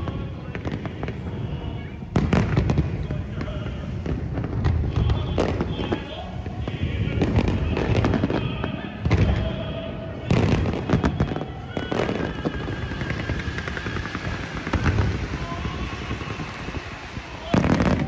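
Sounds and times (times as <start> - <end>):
fireworks bursts and crackling: 0.0 - 18.0.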